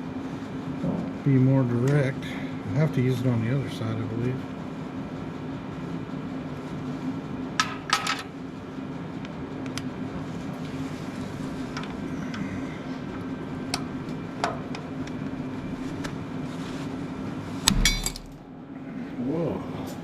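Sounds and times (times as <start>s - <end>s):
steady low hum: 0.0s - 7.6s, 8.3s - 20.0s.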